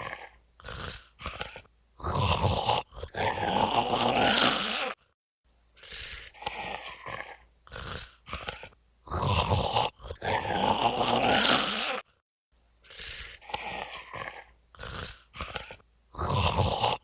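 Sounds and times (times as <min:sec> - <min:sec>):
growling monster voice: 0:00.0 - 0:05.0, 0:05.9 - 0:12.2, 0:13.0 - 0:17.0.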